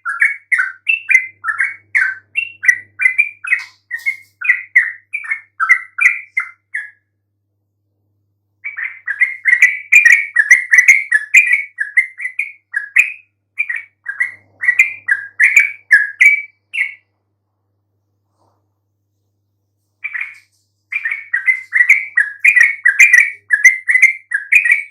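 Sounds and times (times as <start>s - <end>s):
bird singing bubbly chirps: 0.0s - 7.0s, 8.6s - 17.0s, 20.0s - 24.9s.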